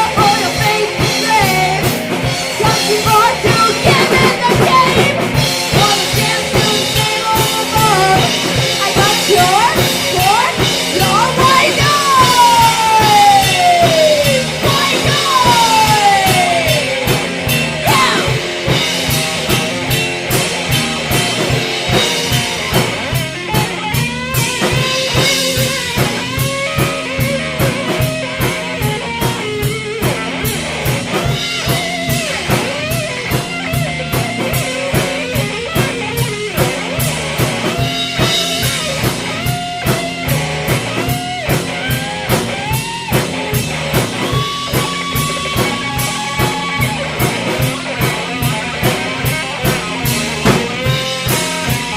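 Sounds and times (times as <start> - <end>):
drum kit beat: 0.0 - 51.9
guitar: 0.0 - 51.9
lead guitar bending notes: 0.0 - 51.9.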